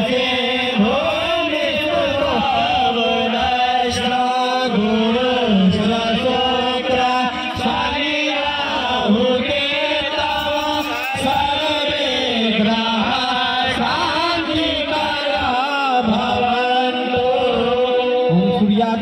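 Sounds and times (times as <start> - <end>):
man chanting a prayer: 0.0 - 19.0.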